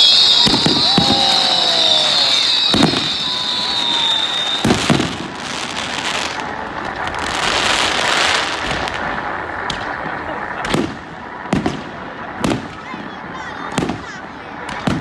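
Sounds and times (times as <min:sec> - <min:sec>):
firework bangs: 0:00.0 - 0:15.0
firework crackling: 0:00.0 - 0:15.0
firework whistle: 0:00.0 - 0:15.0.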